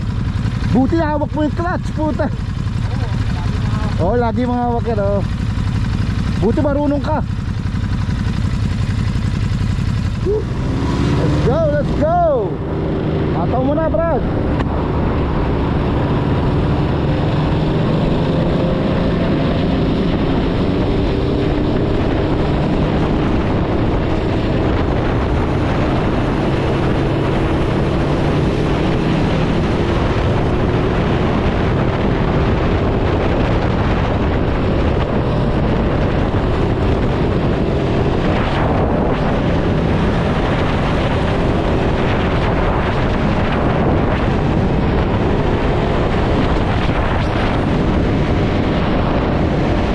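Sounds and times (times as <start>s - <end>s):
motorcycle engine running: 0.0s - 49.9s
wind rush over microphone: 0.0s - 49.9s.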